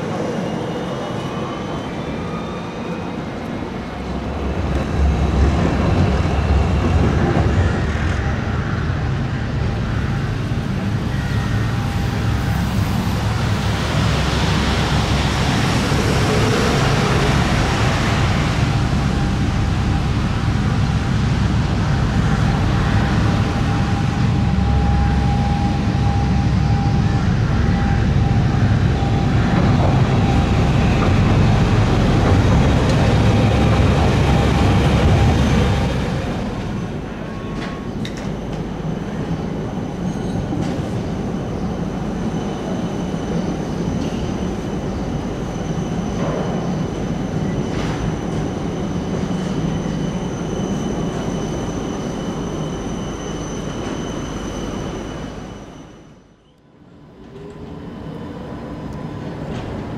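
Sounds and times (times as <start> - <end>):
tram rumble: 0.0 - 59.9
tram wheels rumbling on track: 0.0 - 59.9
tram whine: 0.0 - 59.9.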